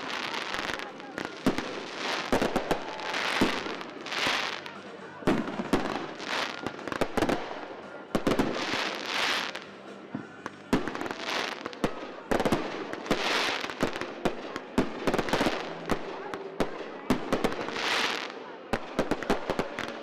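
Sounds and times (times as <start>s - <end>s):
fireworks crackling hiss: 0.0s - 9.8s, 10.5s - 20.0s.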